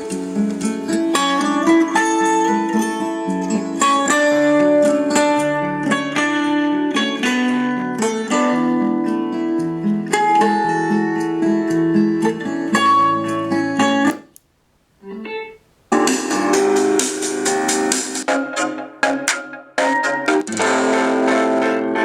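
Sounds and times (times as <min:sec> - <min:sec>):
guitar music through small speaker: 0:00.0 - 0:14.2, 0:15.0 - 0:22.0.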